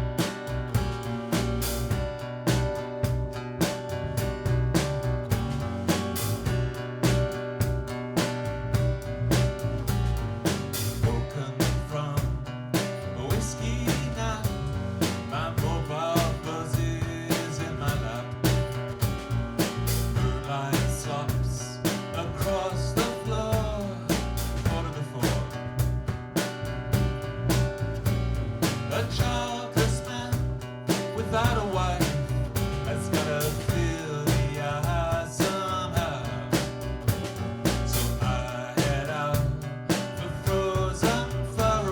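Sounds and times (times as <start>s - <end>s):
drum kit beat: 0.0s - 41.9s
guitar: 0.0s - 41.9s.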